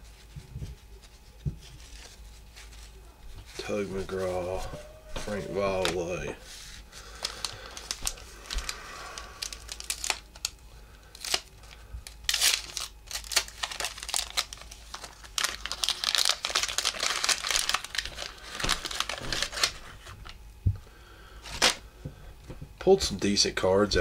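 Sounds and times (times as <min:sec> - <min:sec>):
wax paper wrapper crinkling and tearing: 0:00.1 - 0:20.4, 0:21.4 - 0:21.8.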